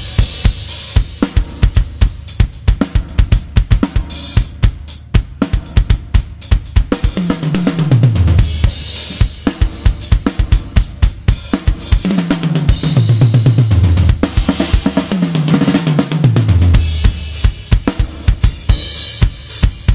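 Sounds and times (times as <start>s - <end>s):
drum kit groove: 0.0s - 19.9s.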